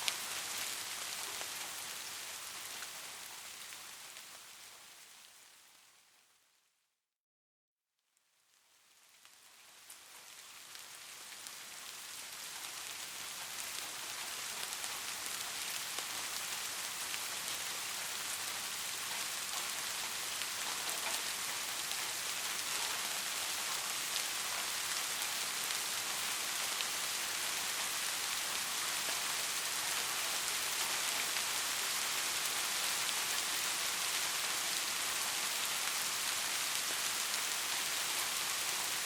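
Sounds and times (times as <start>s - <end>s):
steady rain falling: 0.0s - 6.6s, 8.2s - 39.0s.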